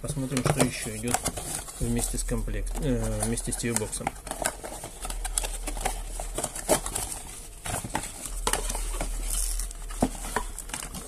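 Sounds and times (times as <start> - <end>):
cardboard being handled: 0.0 - 11.0.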